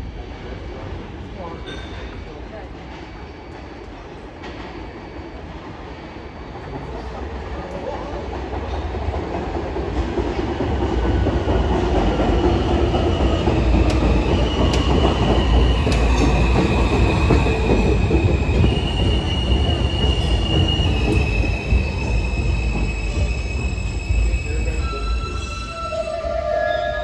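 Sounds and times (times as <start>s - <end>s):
subway train rail rumble: 0.0s - 27.0s.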